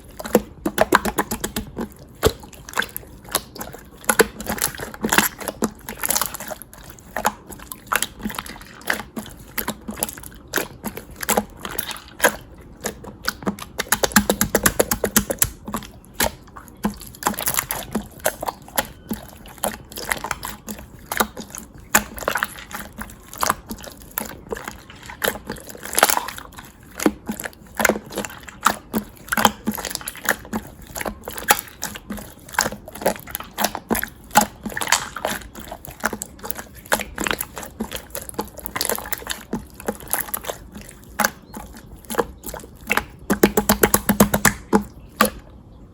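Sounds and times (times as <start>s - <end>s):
hands squishing slime: 0.0s - 45.4s.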